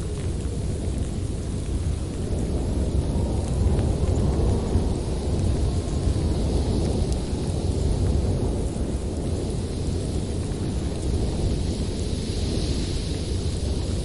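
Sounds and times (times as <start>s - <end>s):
low rumble of thunder: 0.0s - 14.0s
rain: 0.0s - 14.0s.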